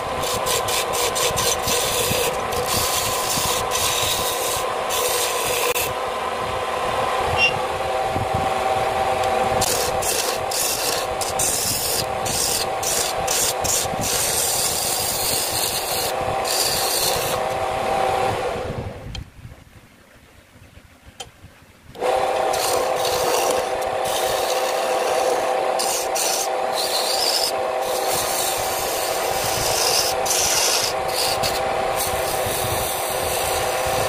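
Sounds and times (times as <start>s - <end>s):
chisel scraping spinning wood: 0.0s - 6.0s, 9.2s - 18.5s, 22.0s - 34.0s
wood lathe motor whine: 0.0s - 19.0s, 22.0s - 34.0s.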